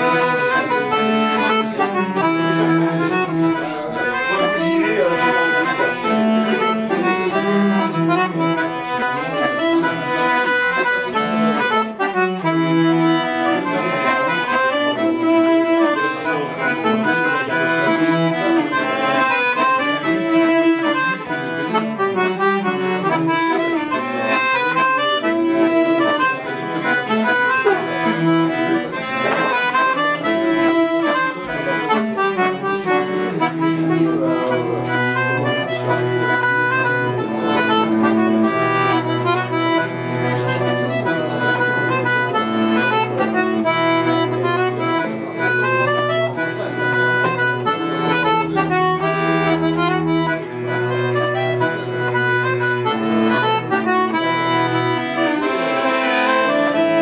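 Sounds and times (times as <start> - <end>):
accordion melody: 0.0 - 57.0
bowed cello: 0.0 - 57.0.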